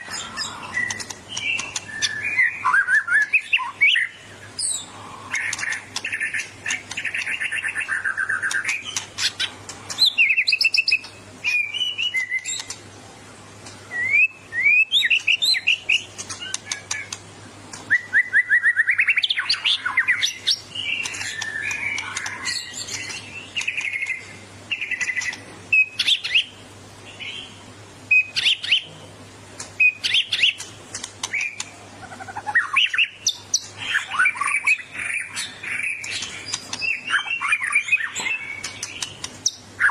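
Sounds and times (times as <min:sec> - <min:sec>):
bird singing loud varied song: 0:00.0 - 0:39.9.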